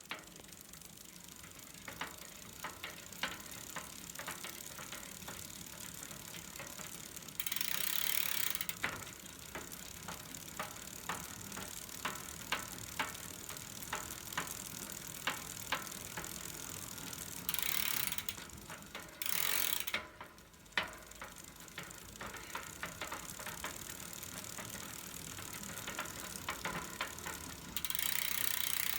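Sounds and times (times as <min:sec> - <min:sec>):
bicycle wheel ratchet clicking: 0:00.0 - 0:28.9.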